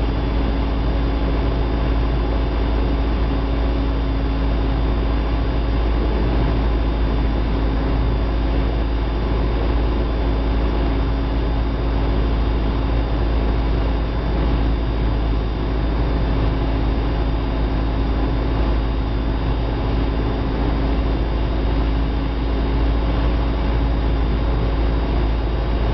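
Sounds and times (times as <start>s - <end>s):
propeller aircraft engine droning: 0.0s - 25.9s.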